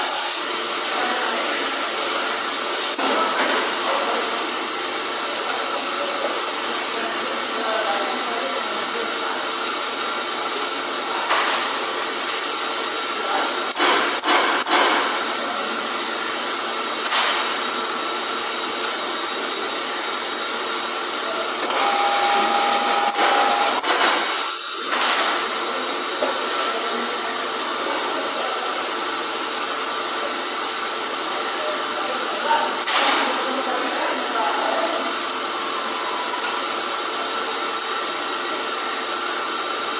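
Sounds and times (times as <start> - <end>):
hissing factory machinery: 0.0 - 39.9.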